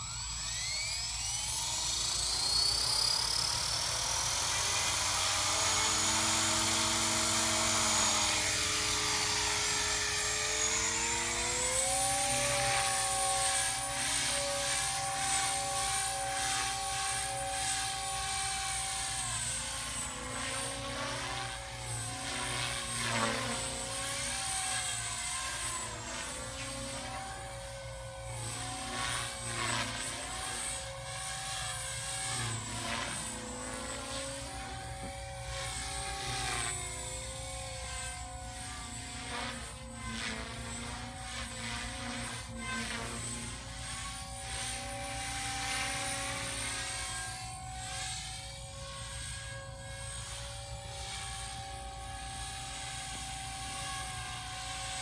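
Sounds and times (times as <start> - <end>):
rc helicopter motor whine: 0.0 - 55.0.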